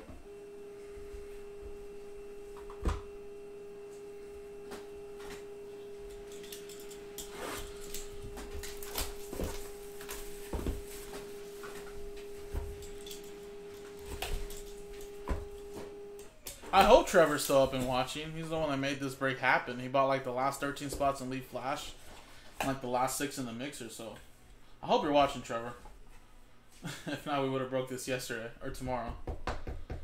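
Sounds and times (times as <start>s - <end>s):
steady hum-like tone: 0.0s - 28.6s.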